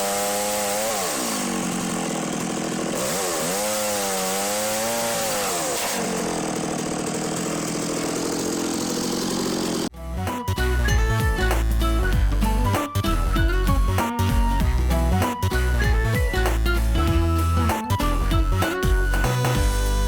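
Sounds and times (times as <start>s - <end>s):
chainsaw cutting at high revs: 0.0s - 20.0s.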